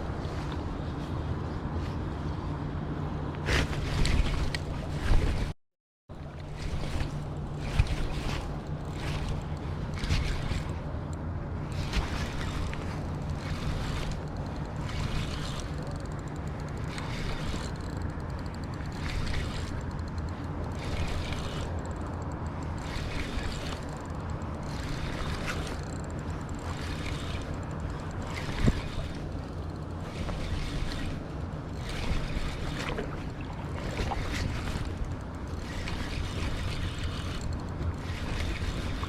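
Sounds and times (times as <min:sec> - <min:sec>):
rushing water rumble: 0:00.0 - 0:39.0.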